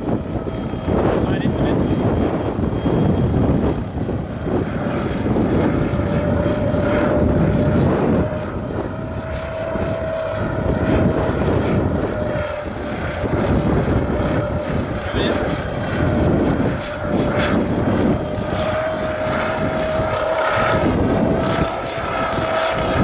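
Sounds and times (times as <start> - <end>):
drone propellers whirring: 0.0 - 23.0
wind rumbling on microphone: 0.0 - 23.0.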